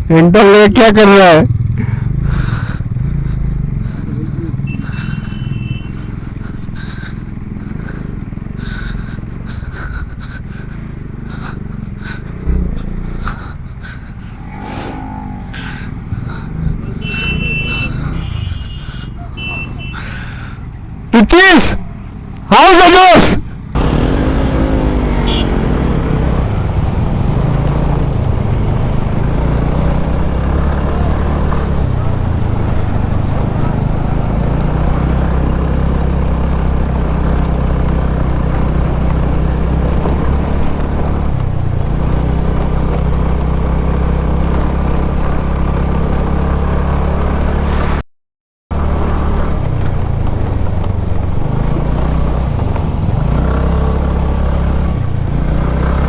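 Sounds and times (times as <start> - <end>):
road and wind noise: 0.0 - 48.0, 48.7 - 56.0
motorcycle engine running: 1.3 - 14.6, 15.2 - 21.1, 23.4 - 47.6, 48.7 - 56.0.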